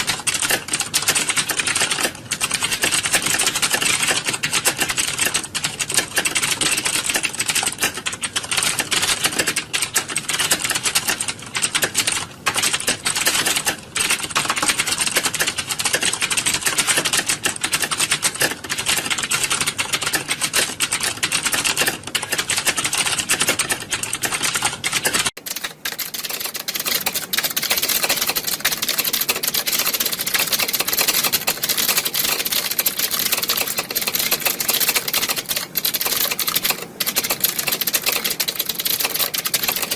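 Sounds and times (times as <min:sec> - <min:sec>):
many keyboards typing: 0:00.0 - 0:39.9.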